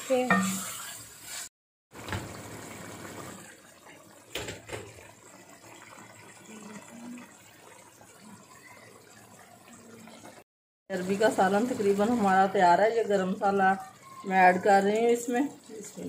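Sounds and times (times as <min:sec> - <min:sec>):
curry bubbling in a pot: 0:00.1 - 0:16.0.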